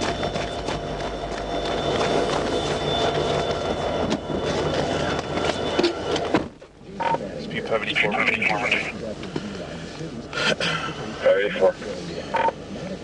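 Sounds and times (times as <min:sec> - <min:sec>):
freight train rumbling and rattling: 0:00.0 - 0:13.0.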